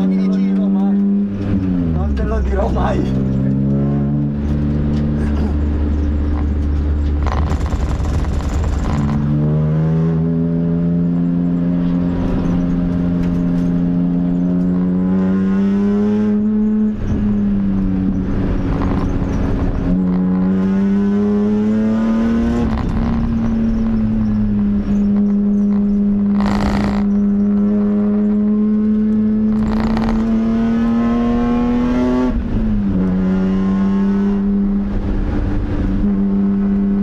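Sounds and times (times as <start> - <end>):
race car engine accelerating: 0.0 - 37.0.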